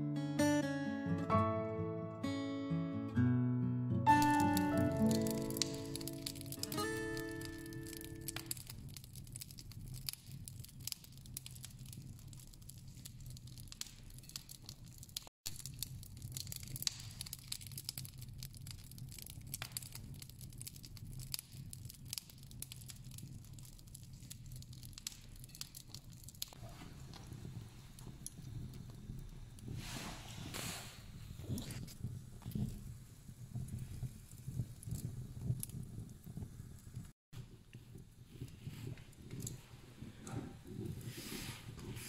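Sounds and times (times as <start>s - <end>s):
wood fire crackling: 4.0s - 42.0s.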